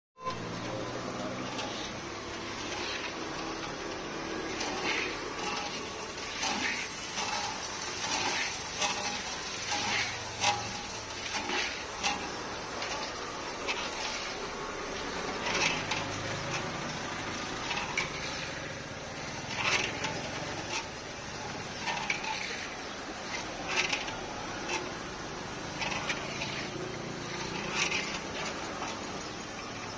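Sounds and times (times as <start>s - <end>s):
food deep-frying in hot oil: 0.2s - 29.9s
metal skimmer scraping a wok: 0.2s - 29.9s.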